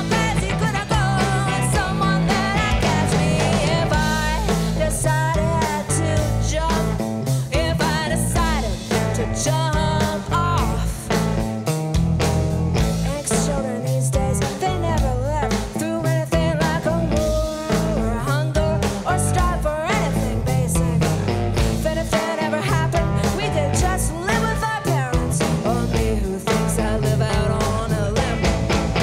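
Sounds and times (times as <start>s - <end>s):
woman singing: 0.0s - 11.4s, 13.0s - 29.0s
drums: 0.0s - 29.0s
electric bass: 0.0s - 29.0s
electric guitar: 0.0s - 29.0s.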